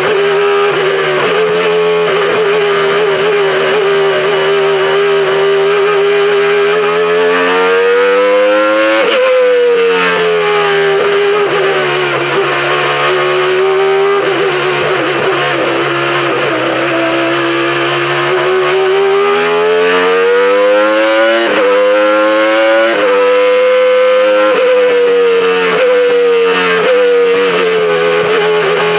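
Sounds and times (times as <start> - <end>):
racing engine at high revs: 0.0 - 28.9.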